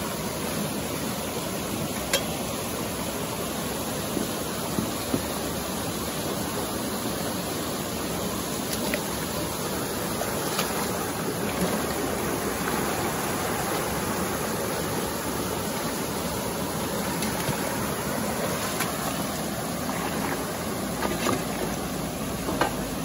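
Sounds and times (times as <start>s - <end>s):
river flowing: 0.0s - 23.0s.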